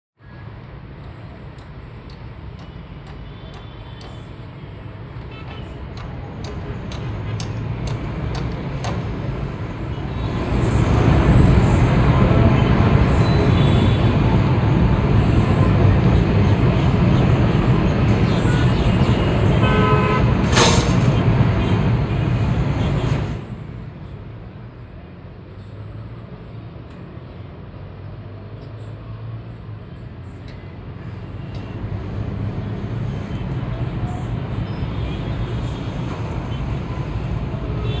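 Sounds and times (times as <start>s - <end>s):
heavy engine rumbling: 0.4s - 38.0s.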